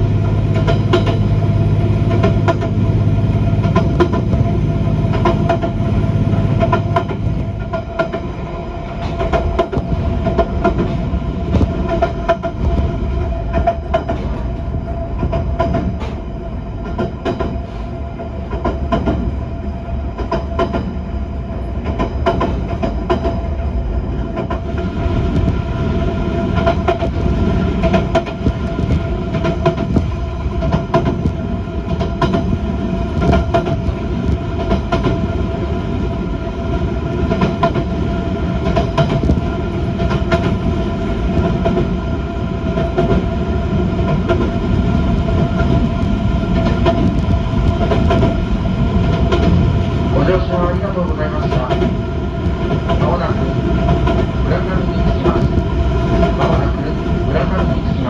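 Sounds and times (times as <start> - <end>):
train rumble with humming whine: 0.0 - 58.0.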